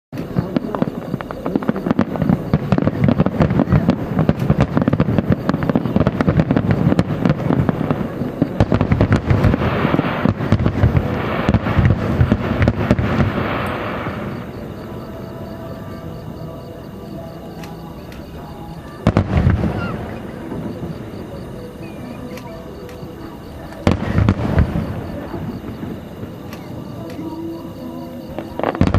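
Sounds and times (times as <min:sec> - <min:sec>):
fireworks bursting and crackling: 0:00.1 - 0:28.9.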